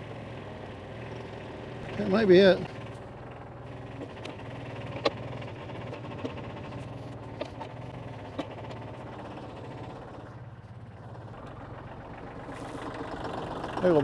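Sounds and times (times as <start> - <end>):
tractor engine idling: 0.1 - 14.0.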